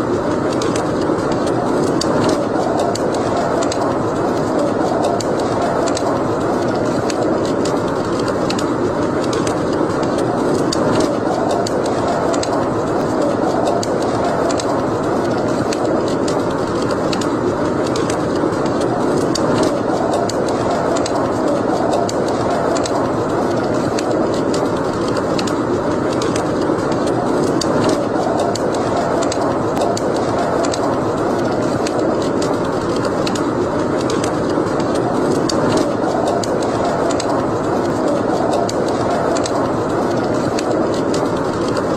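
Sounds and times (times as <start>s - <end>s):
fire crackles and pops: 0.0s - 41.9s
wood fire hissing: 0.0s - 41.9s.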